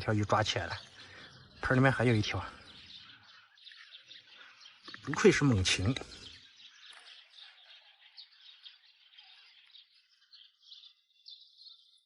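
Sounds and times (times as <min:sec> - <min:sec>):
distant bird chirping: 0:00.0 - 0:12.0.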